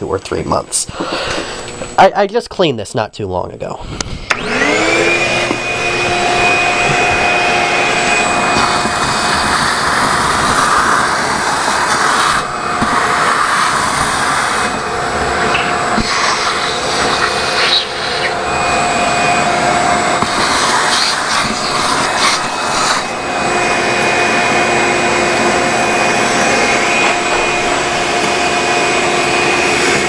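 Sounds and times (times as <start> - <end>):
shop vac motor running: 0.0 - 2.1, 3.8 - 30.0.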